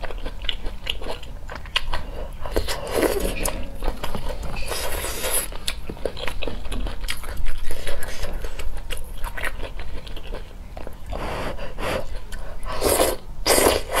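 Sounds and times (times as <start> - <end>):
chewing and mouth clicks: 0.0 - 11.2.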